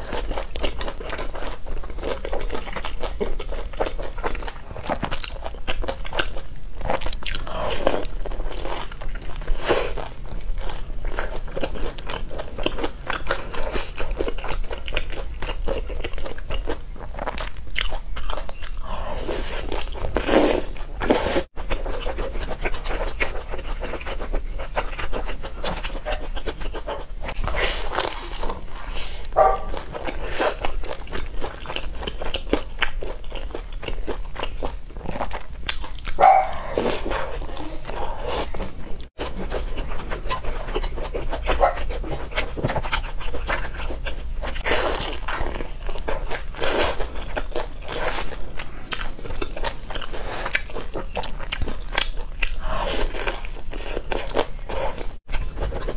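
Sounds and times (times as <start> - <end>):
chewing and mouth smacking: 0.0 - 55.9.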